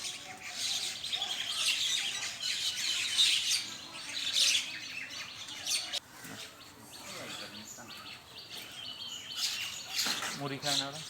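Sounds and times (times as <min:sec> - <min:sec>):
flock of birds chattering: 0:00.0 - 0:11.0.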